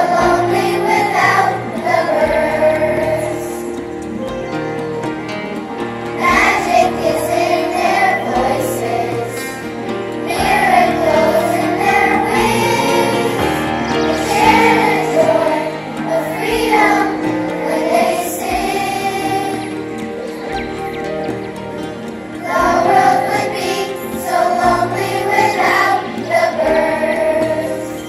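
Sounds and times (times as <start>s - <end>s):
children's choir singing: 0.0s - 28.0s
instrumental accompaniment: 0.0s - 28.0s.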